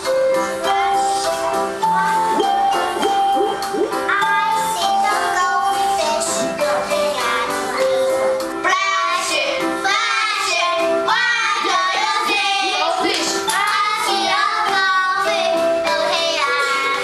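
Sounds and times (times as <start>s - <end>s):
musical accompaniment: 0.0s - 17.0s
children singing: 0.3s - 17.0s.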